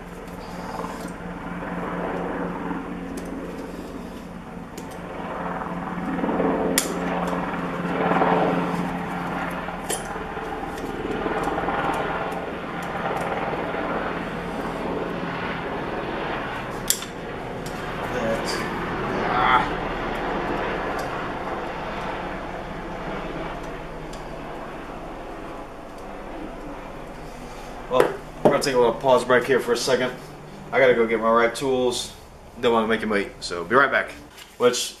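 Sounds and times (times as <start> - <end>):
engine-like drone: 0.0 - 34.3.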